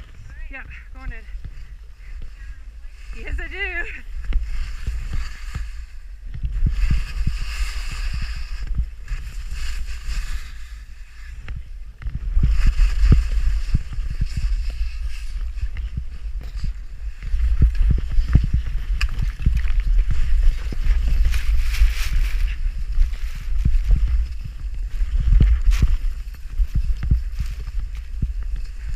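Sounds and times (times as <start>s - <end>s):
wind buffeting microphone: 0.0s - 28.9s
skis hissing through powder snow: 0.4s - 28.9s.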